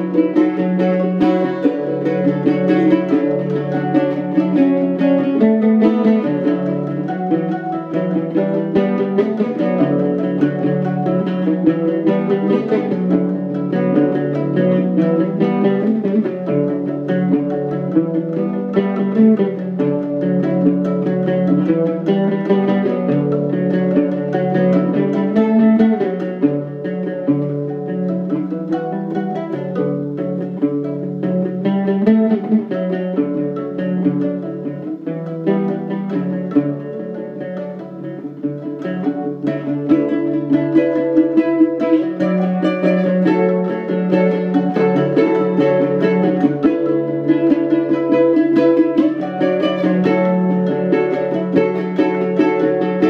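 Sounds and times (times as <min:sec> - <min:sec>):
plucked string duet: 0:00.0 - 0:53.0.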